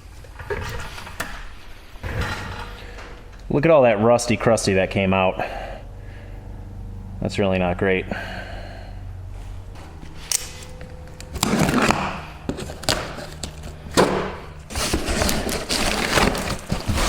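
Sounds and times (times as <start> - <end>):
rough scraping: 0.0 - 17.0.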